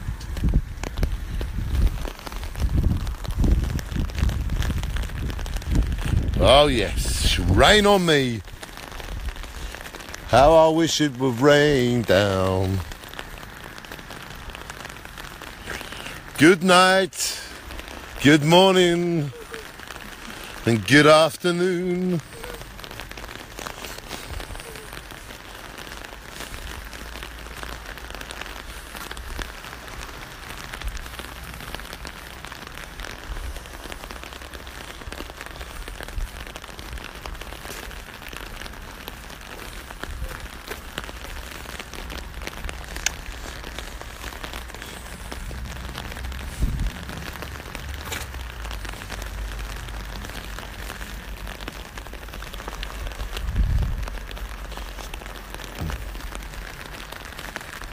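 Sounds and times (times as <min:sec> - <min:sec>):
rain drops ticking: 0:00.0 - 0:57.9.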